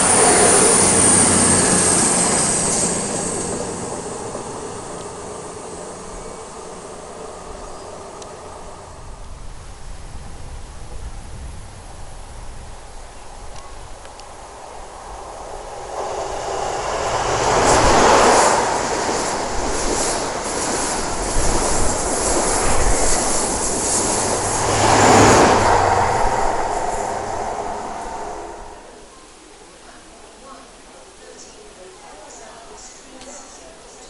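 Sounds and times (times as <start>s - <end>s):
train passing close by: 0.0s - 29.2s.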